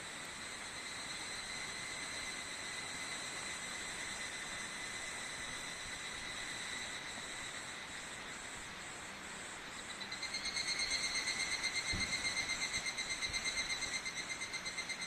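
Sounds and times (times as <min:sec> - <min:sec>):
cicadas calling: 0:00.2 - 0:15.0.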